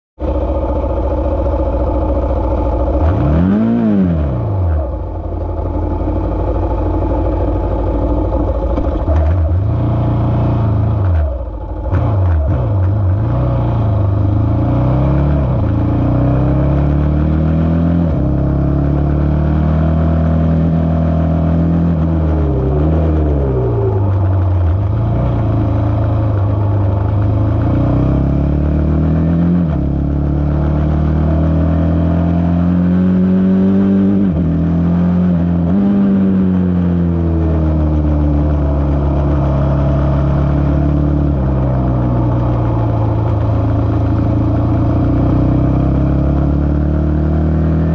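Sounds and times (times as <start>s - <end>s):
racing car engine accelerating: 2.5s - 5.0s, 7.1s - 47.9s.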